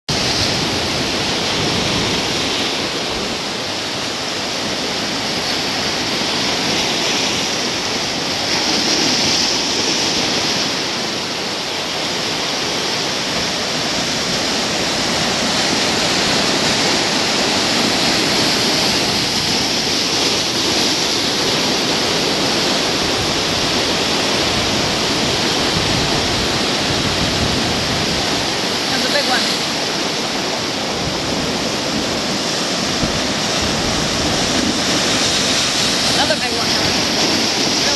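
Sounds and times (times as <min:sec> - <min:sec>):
ocean surf on rocks: 0:00.1 - 0:37.9.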